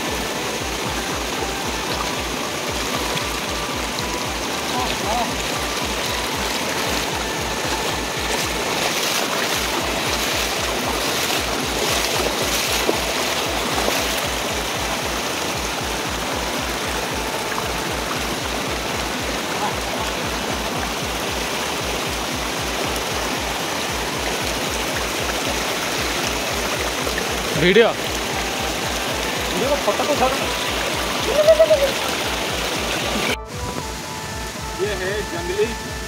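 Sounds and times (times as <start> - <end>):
stream water rushing over rocks: 0.0 - 36.0.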